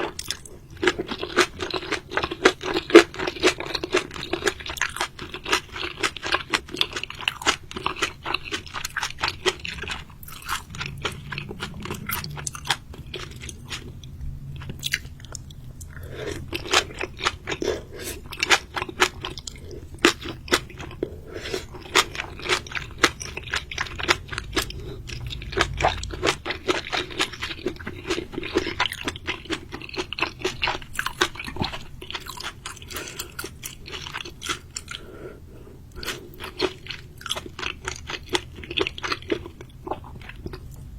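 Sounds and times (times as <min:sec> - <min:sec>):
person chewing crunchy seafood: 0:00.0 - 0:40.9.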